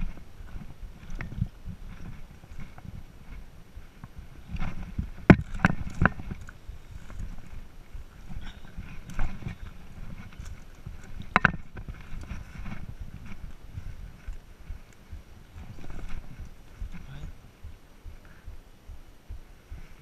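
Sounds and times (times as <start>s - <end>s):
clothing rubbing on camera: 0.0s - 20.0s
footsteps on rocky ground: 0.0s - 20.0s.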